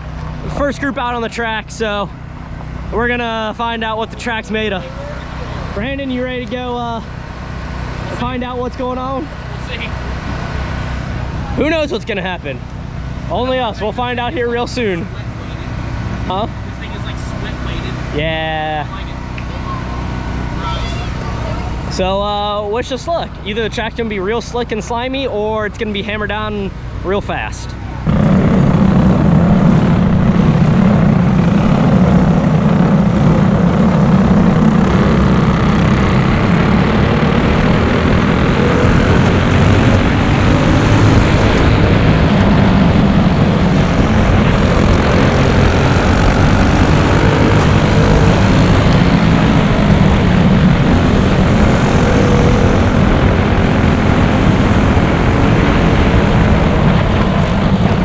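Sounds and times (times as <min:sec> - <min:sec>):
kart engine running at speed: 0:00.0 - 0:58.0.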